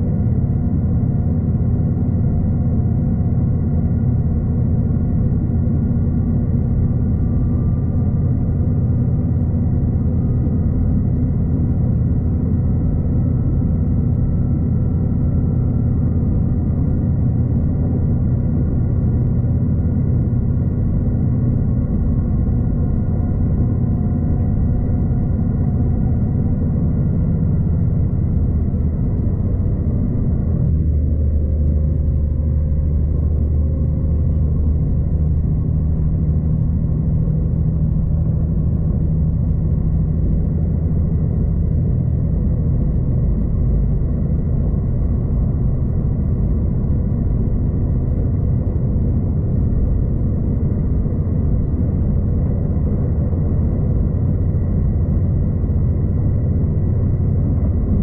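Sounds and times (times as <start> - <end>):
droning hum: 0.0 - 58.0.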